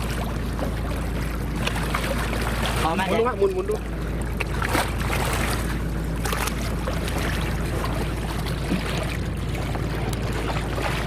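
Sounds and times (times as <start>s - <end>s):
boat engine running: 0.0s - 11.0s
water splashing against hull: 0.0s - 11.0s.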